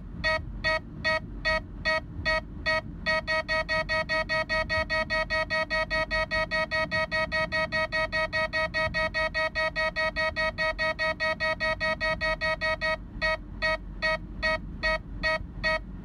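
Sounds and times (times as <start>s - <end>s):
radar detector beeping: 0.2s - 15.8s.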